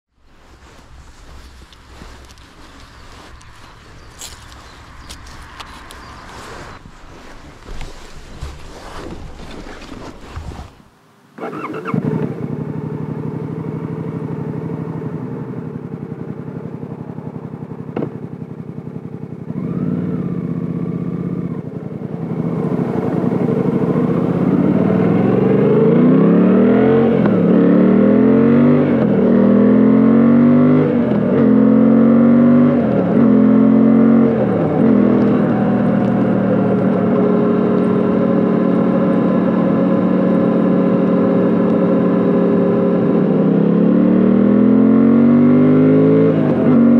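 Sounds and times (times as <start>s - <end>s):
motorcycle engine revving and accelerating: 0.2s - 10.7s, 11.4s - 46.9s.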